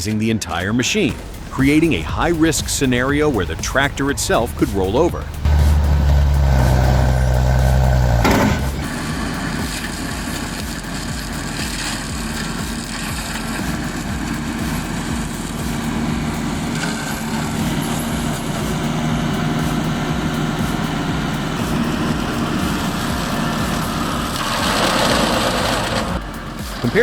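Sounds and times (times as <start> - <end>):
heavy machine engine droning: 1.1 - 27.0.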